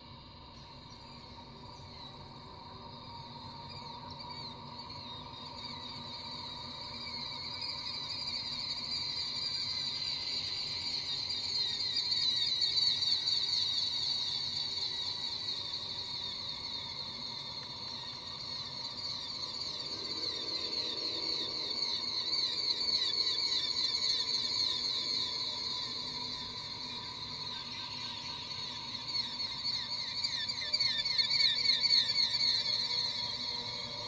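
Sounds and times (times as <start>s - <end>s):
high shimmering drone: 0.5s - 34.0s.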